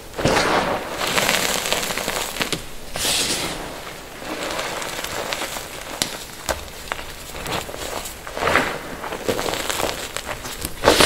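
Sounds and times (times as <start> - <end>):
hands crushing chalk powder: 0.2 - 11.0.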